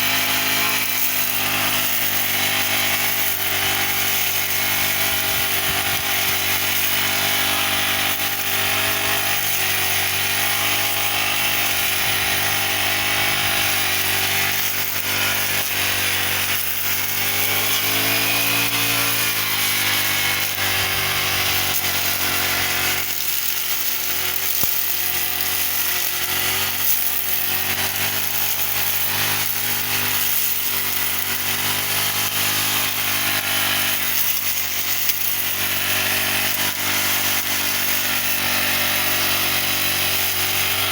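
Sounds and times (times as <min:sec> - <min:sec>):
brush cutter engine cutting grass: 0:00.0 - 0:40.9.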